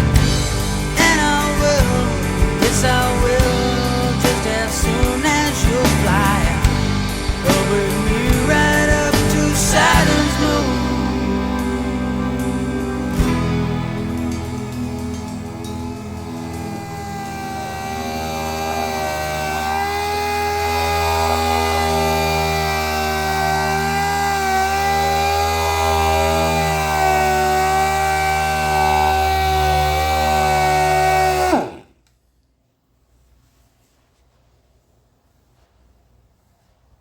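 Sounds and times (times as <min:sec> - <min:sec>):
electric power tool motor running: 0:00.0 - 0:31.8.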